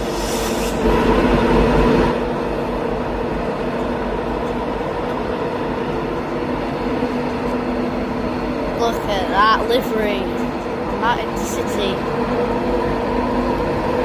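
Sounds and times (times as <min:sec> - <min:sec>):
train moving off: 0:00.0 - 0:14.0.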